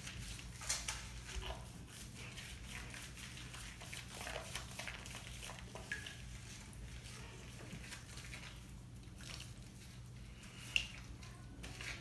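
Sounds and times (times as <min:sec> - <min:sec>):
bathwater splashing: 0:00.0 - 0:11.1
wet fur rubbing: 0:00.0 - 0:12.0.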